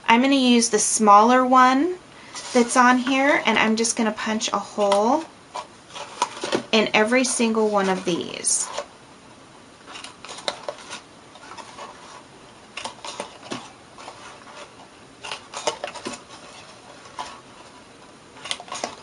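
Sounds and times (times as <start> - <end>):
paper handling: 2.3 - 8.9, 9.8 - 19.0.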